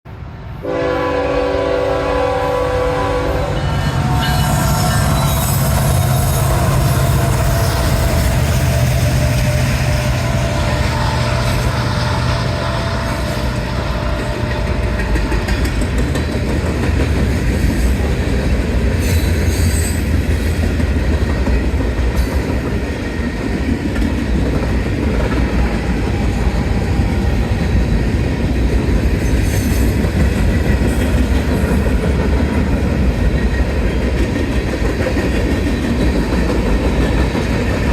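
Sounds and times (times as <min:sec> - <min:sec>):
diesel locomotive engines: 0:00.1 - 0:37.9
freight cars rumbling: 0:02.0 - 0:37.9.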